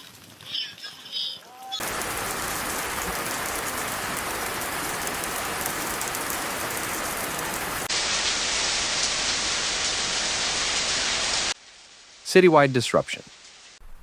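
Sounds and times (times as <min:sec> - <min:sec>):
heavy rain hiss: 0:01.8 - 0:14.0.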